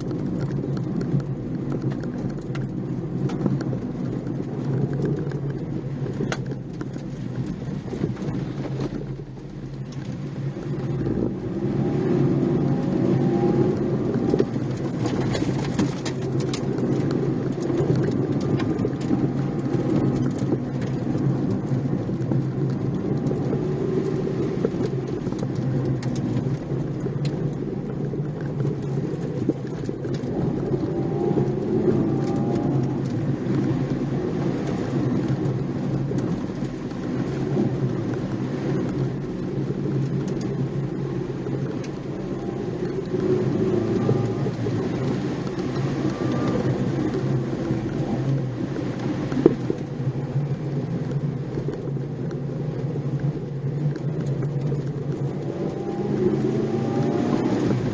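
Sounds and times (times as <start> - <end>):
car engine from inside cabin: 0.0 - 57.9.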